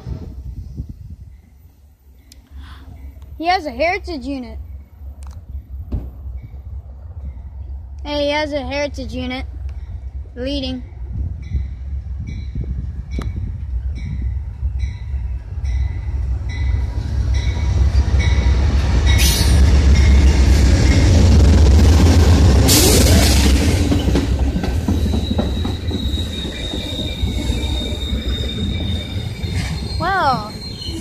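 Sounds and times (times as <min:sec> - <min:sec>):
train wheels squealing on rails: 0:00.0 - 0:03.6, 0:04.6 - 0:07.8, 0:11.2 - 0:21.4, 0:22.6 - 0:31.0.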